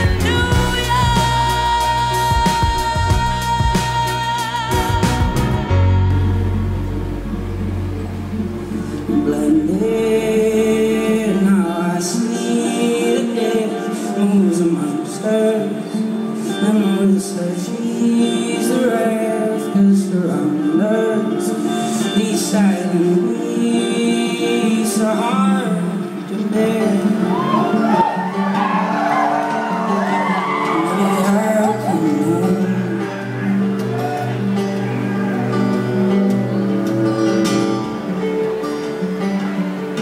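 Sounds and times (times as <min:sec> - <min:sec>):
man singing: 0:00.0 - 0:06.6, 0:09.0 - 0:28.5, 0:29.9 - 0:36.2
guitar chords: 0:00.0 - 0:40.0.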